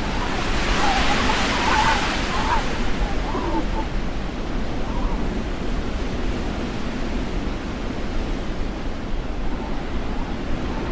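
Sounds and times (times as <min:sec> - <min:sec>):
storm wind buffeting microphone: 0:00.0 - 0:10.9.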